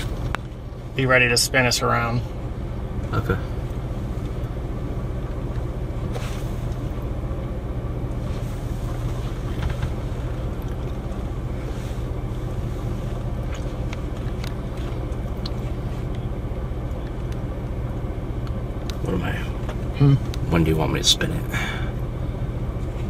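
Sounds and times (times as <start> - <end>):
vehicle engine rumble: 0.0 - 23.0
wind: 0.0 - 23.0.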